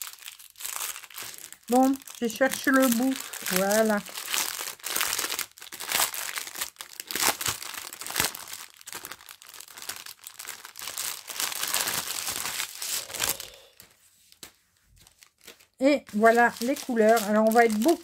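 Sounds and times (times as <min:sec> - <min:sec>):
plastic film crinkling: 0:00.0 - 0:18.0.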